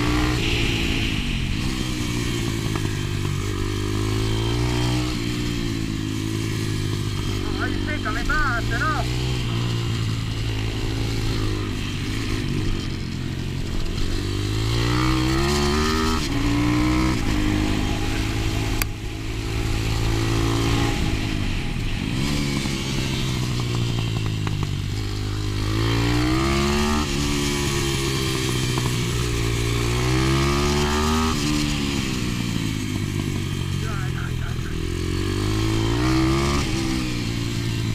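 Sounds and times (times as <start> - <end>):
motorbike engine revving: 0.0 - 37.9.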